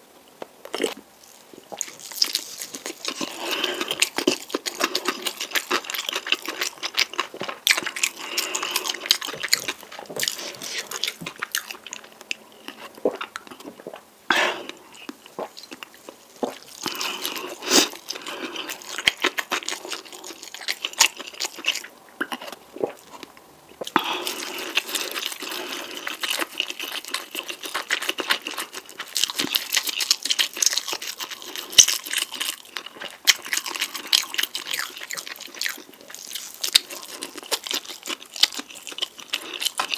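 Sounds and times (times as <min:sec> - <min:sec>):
chewing and slurping noodles: 0:00.7 - 0:39.9.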